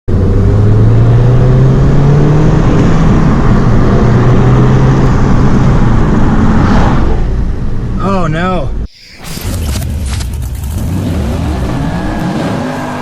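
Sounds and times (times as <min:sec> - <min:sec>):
car engine accelerating: 0:00.1 - 0:07.6, 0:09.5 - 0:13.0
road noise: 0:00.1 - 0:13.0.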